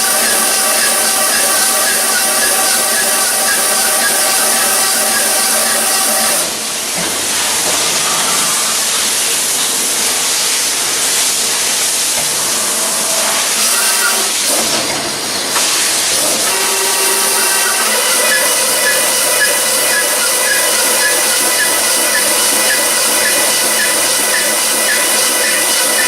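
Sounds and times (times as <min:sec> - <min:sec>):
machine whine: 0:00.0 - 0:10.2, 0:12.2 - 0:26.0
high-pressure jet hissing: 0:00.0 - 0:26.0.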